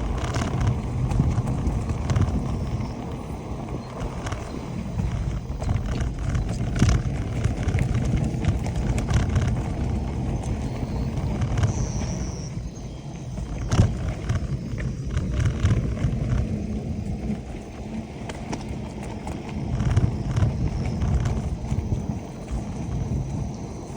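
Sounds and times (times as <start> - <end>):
bike knocks and rattles: 0.0 - 23.9
bike tyres rumbling on trail: 0.0 - 23.9.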